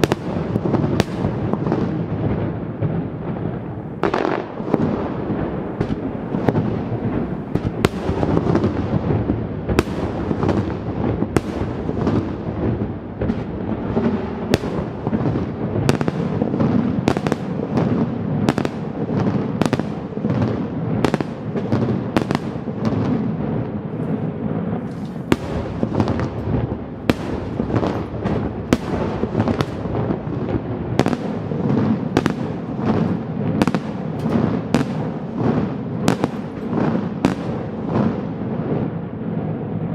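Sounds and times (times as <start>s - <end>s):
firework bangs: 0.0s - 39.9s
rolling firework crackle: 0.0s - 39.9s.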